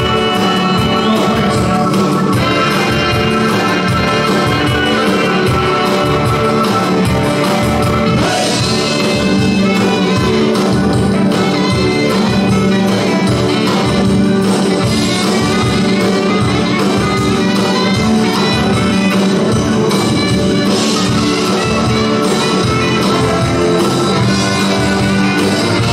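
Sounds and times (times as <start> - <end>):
live band playing: 0.0 - 25.9
steady drum beat: 0.0 - 25.9.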